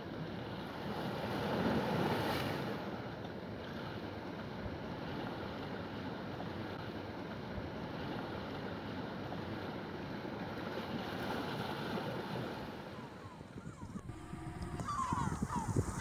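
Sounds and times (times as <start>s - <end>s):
sea: 0.0s - 16.0s
wind: 0.0s - 16.0s.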